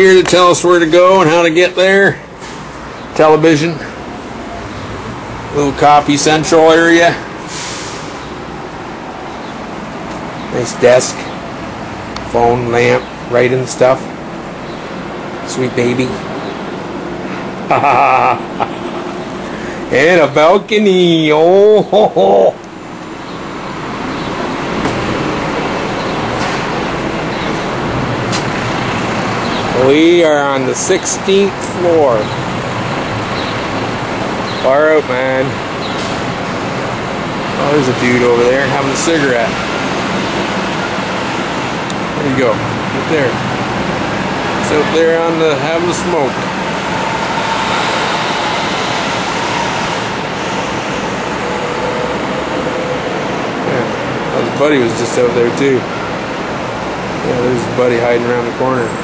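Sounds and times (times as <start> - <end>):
city traffic din: 0.0 - 59.0.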